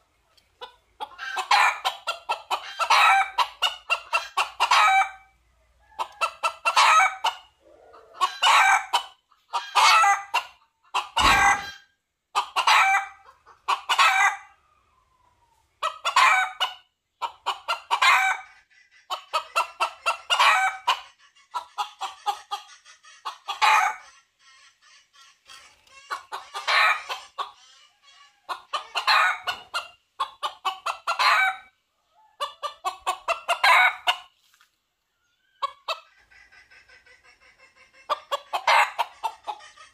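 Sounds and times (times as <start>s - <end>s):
rooster rapid clucking: 0.6s - 5.2s, 6.0s - 14.5s, 15.8s - 31.7s, 32.4s - 34.3s, 35.6s - 39.9s.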